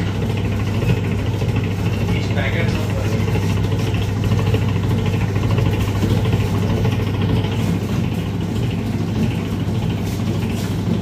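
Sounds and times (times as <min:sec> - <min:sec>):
dough mixer motor humming: 0:00.0 - 0:11.0.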